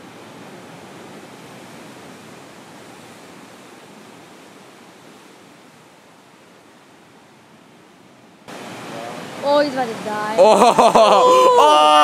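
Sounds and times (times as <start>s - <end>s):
ocean surf and breaking waves: 0.0s - 12.0s.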